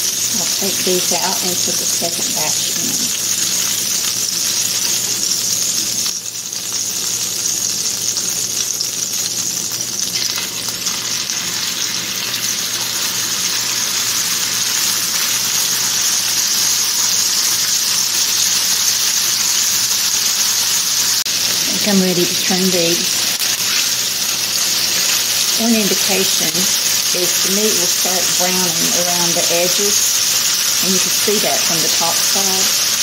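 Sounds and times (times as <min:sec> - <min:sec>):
steak sizzling in a skillet: 0:00.0 - 0:33.0.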